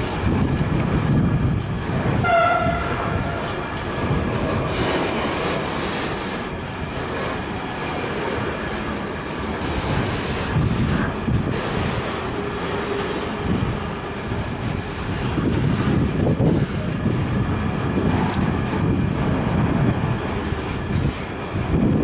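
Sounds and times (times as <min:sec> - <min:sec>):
freight train wheels clattering: 0:00.0 - 0:22.0.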